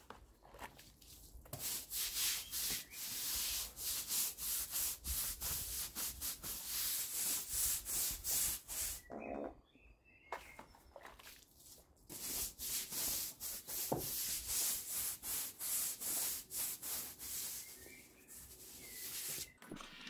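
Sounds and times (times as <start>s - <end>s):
brush scrubbing wet stone: 0.9s - 9.1s, 11.1s - 19.6s.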